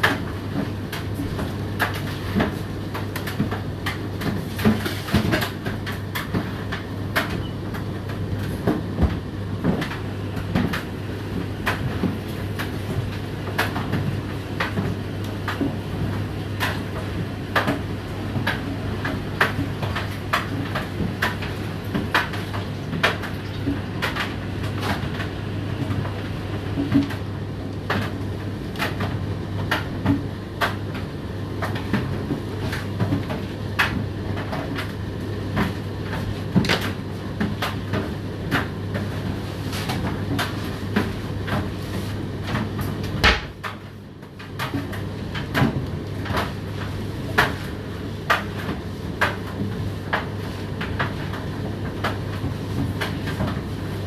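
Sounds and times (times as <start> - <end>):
tumble dryer motor hum: 0.0 - 54.0.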